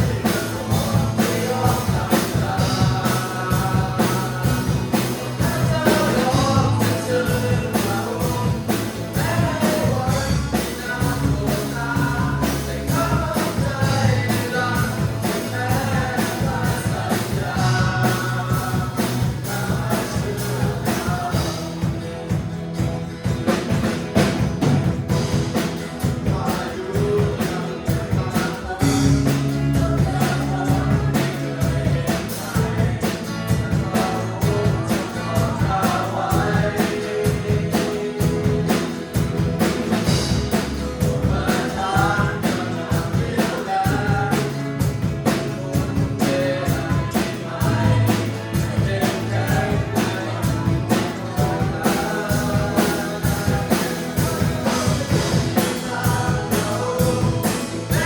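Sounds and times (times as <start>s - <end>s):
person singing: 0.0s - 22.5s, 23.4s - 58.0s
band with drums and bass: 0.0s - 58.0s.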